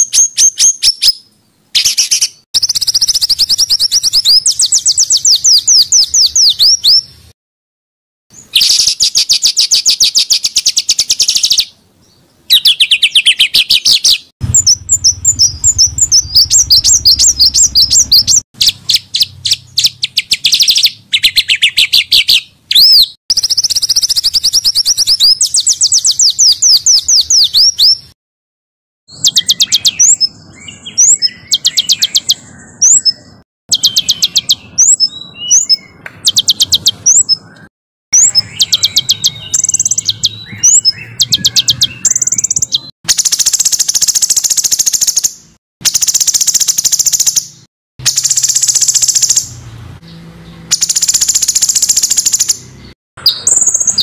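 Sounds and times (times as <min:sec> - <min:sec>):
songbirds singing rapid notes: 0:00.0 - 0:07.3, 0:08.3 - 0:28.2, 0:29.1 - 0:54.0.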